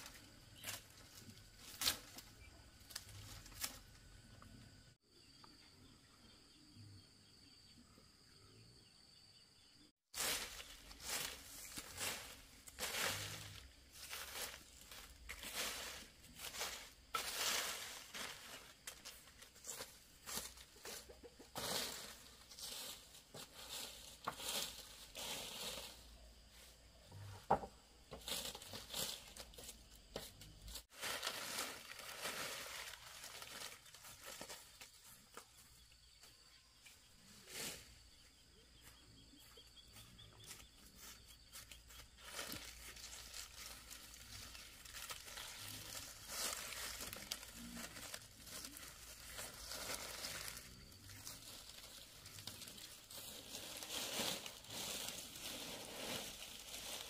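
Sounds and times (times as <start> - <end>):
palm leaves rustling on grass: 0.0 - 4.0, 10.0 - 27.1, 28.0 - 39.5, 40.4 - 57.0.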